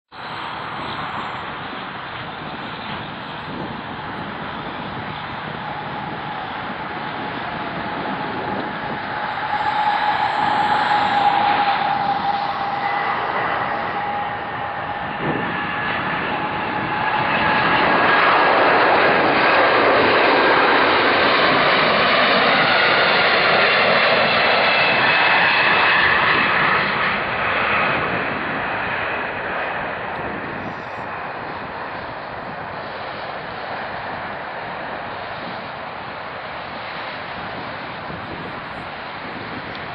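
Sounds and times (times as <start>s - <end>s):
jet engines whining: 0.2s - 39.9s.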